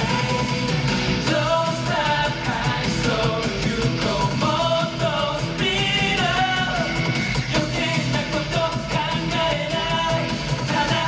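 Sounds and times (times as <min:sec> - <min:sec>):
loud band backing track: 0:00.0 - 0:11.0
male voices singing: 0:00.0 - 0:11.0.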